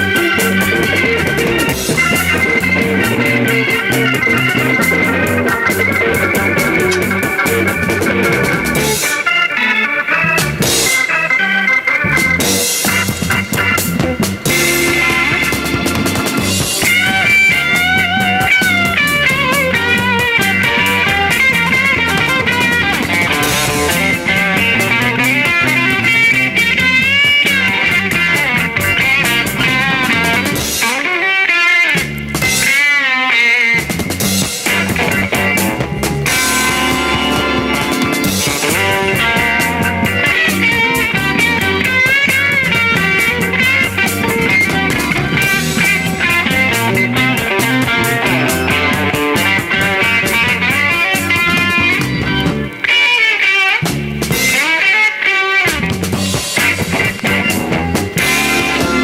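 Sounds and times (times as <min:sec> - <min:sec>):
drums and cymbals beat: 0:00.0 - 0:09.3, 0:10.4 - 0:11.1, 0:12.1 - 0:31.1, 0:32.0 - 0:33.0, 0:33.7 - 0:52.8, 0:53.8 - 0:54.8, 0:55.7 - 0:59.0
bass: 0:00.0 - 0:31.2, 0:31.8 - 0:53.0, 0:53.8 - 0:54.9, 0:55.6 - 0:59.0
electric guitar: 0:00.0 - 0:59.0
organ chords: 0:00.0 - 0:59.0
rock band playing: 0:00.0 - 0:59.0.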